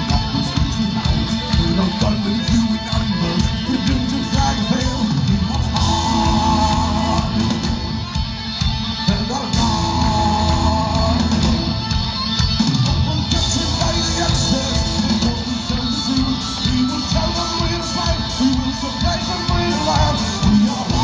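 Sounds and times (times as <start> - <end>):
person singing: 0.0 - 8.0, 9.0 - 11.8, 12.7 - 21.0
drum kit: 0.0 - 21.0
electric guitars: 0.0 - 21.0.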